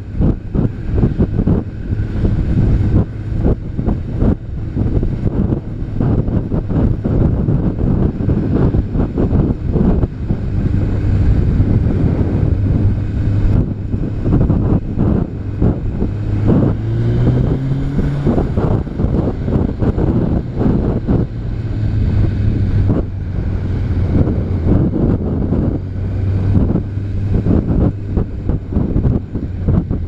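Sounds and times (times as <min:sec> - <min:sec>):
motorcycle engine cruising: 0:00.0 - 0:30.0
wind buffeting microphone: 0:00.0 - 0:30.0.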